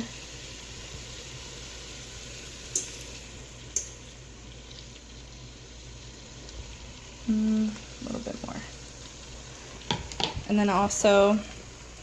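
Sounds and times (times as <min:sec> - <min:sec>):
butter hissing in a pot: 0:00.0 - 0:12.0.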